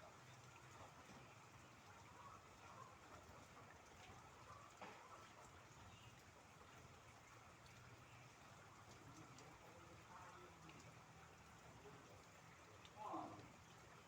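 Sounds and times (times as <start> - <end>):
faint rain hiss: 0.0 - 14.0
water drips: 0.2 - 14.0.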